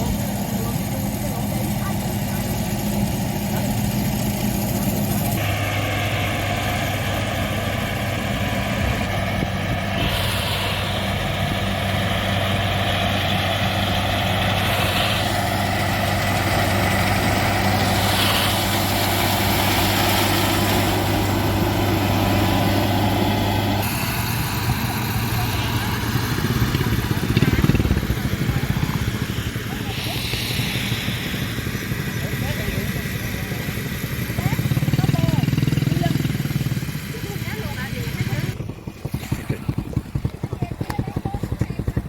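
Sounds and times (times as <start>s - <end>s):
harvesting machine engine running: 0.0s - 42.0s.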